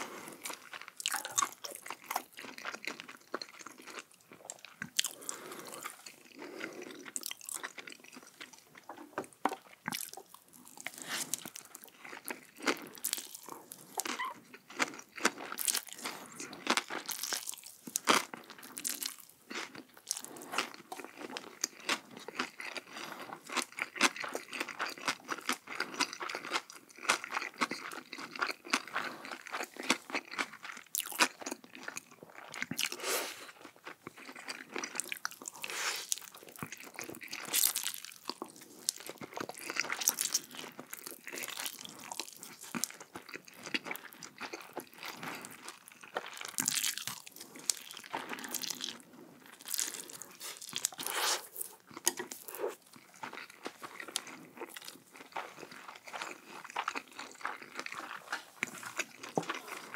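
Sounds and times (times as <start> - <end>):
crunchy food being chewed: 0.0 - 59.9.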